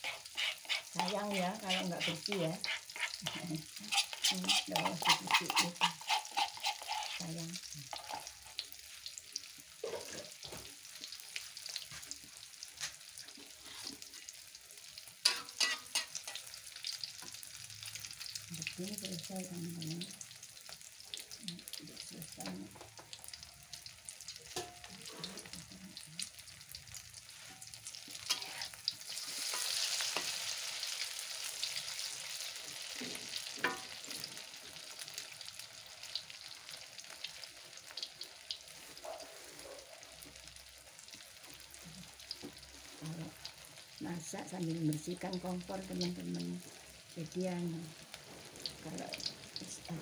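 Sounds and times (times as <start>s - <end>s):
food sizzling in hot oil: 0.0s - 50.0s.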